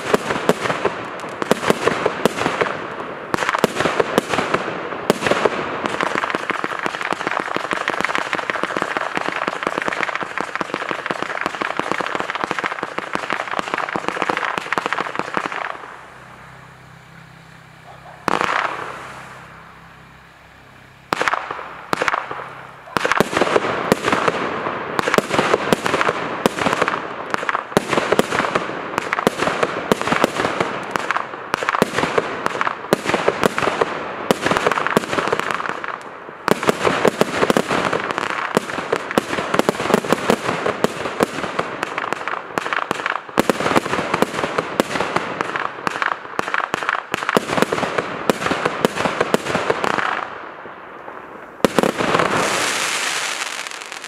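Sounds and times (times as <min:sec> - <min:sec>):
fireworks firing rapid volleys: 0:00.0 - 0:54.0.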